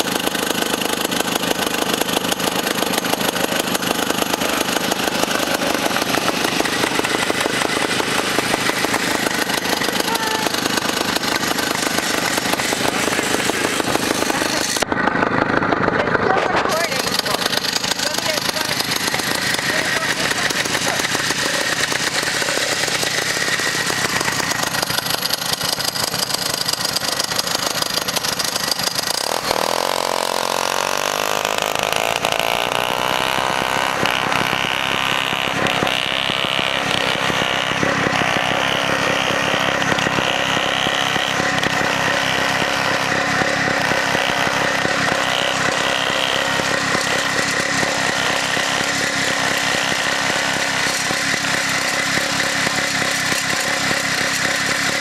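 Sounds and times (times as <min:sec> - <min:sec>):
snowmobile engine buzzing: 0:00.0 - 0:55.0.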